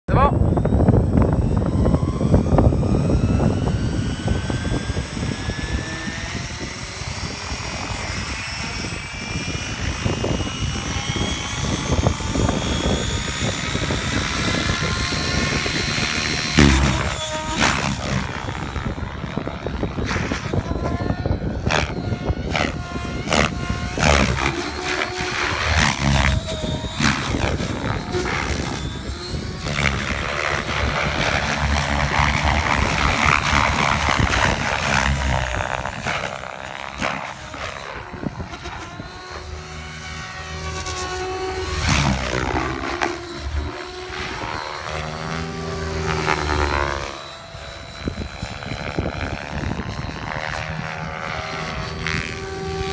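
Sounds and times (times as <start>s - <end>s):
rc helicopter motor whine and rotor: 0.1s - 52.9s.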